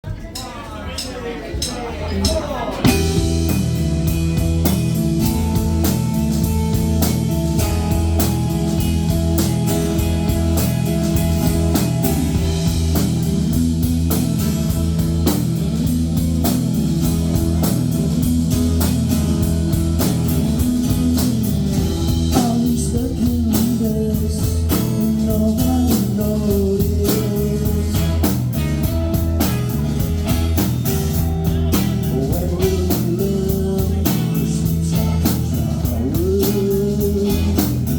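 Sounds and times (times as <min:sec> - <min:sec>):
bass and drums: 0:00.0 - 0:37.9
electric guitar: 0:02.8 - 0:37.9.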